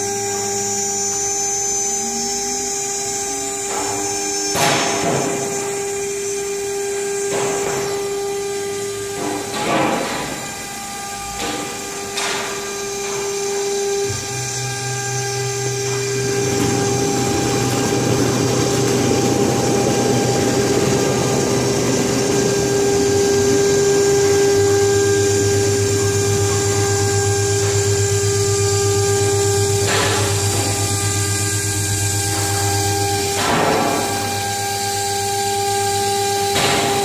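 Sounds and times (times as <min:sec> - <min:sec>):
low motor hum: 0:00.0 - 0:37.0
router spindle whine: 0:00.0 - 0:37.0.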